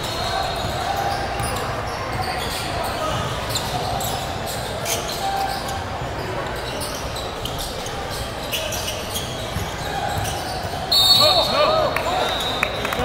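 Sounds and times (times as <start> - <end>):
shoes squeaking on floor: 0.0 - 12.7.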